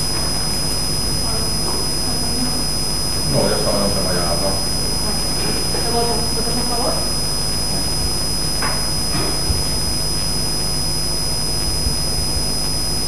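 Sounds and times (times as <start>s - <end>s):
electrical mains hum: 0.0s - 13.0s
high-pitched whine: 0.0s - 13.0s.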